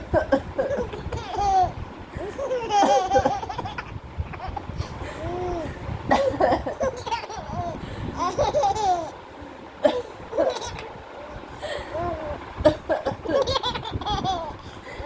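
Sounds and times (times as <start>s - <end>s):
baby laughing: 0.2s - 9.2s, 9.9s - 11.0s, 11.9s - 14.8s.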